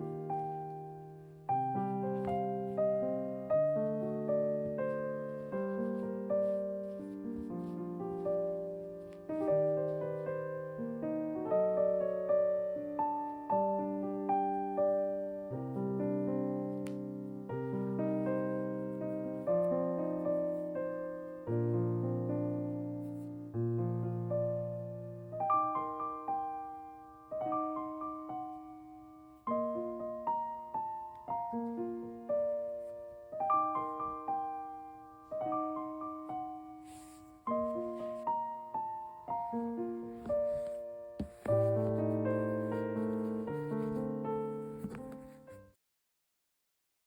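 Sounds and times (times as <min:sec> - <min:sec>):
gentle piano music: 0:00.0 - 0:45.8.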